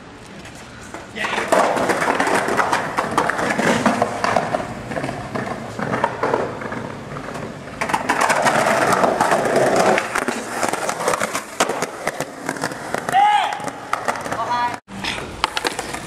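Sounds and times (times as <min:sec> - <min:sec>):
skateboard wheels rolling on pavement: 0:00.0 - 0:16.0.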